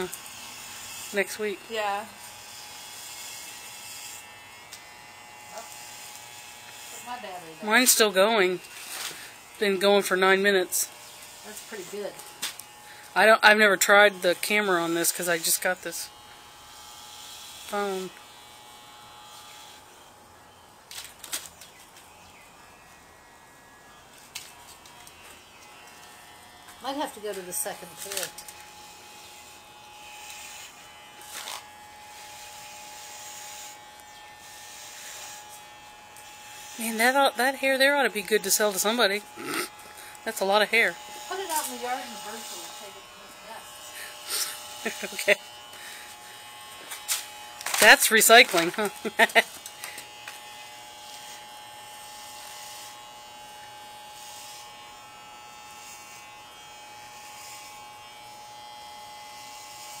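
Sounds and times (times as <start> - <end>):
electric hair clippers shaving: 0.0 - 60.0.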